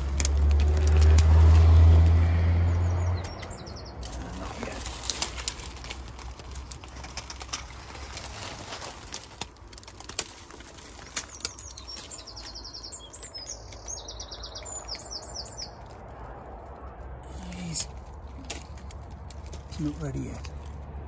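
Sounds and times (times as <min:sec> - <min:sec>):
vegetation rustling and snapping: 0:00.0 - 0:21.0.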